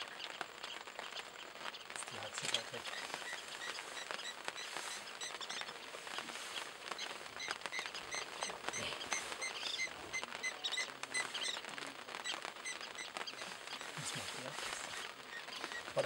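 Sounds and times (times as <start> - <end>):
faint clicks and crackles: 0.0 - 16.0
short high chirping calls: 2.3 - 16.0.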